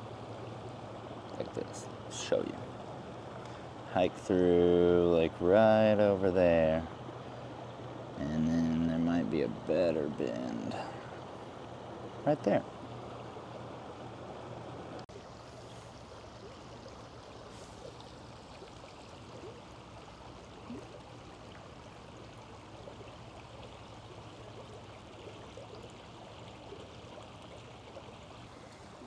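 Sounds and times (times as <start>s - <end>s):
creek water running over rocks: 0.0s - 29.0s.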